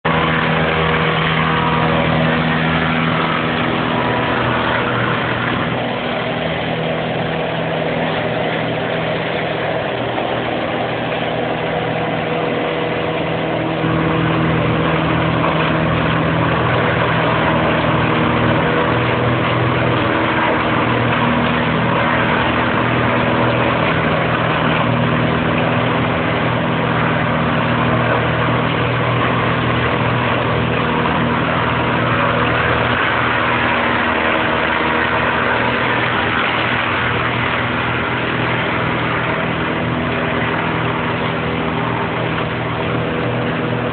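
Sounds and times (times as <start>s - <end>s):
diesel engine running under load: 0.0s - 43.9s
grinder mechanical din: 0.0s - 43.9s.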